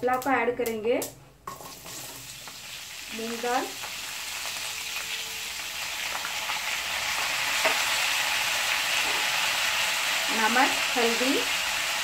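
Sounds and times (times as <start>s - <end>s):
food sizzling in hot oil: 1.4s - 12.0s.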